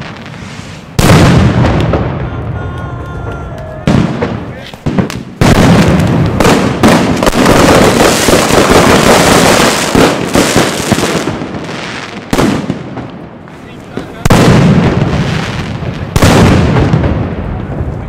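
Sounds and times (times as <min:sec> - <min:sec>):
firework crackling: 0:00.0 - 0:18.0.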